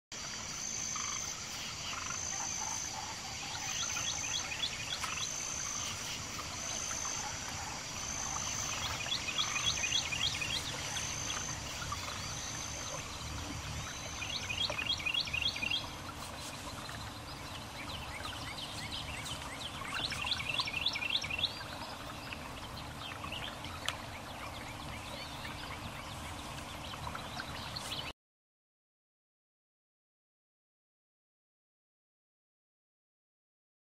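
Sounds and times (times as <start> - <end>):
frogs croaking: 0.2 - 28.0
outdoor hiss: 0.2 - 28.1.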